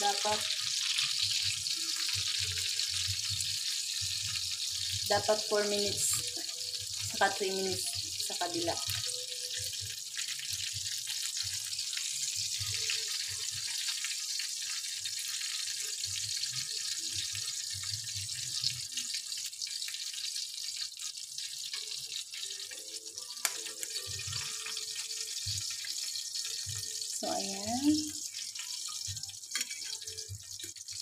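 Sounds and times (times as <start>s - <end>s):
fish sizzling in hot oil: 0.0s - 31.0s.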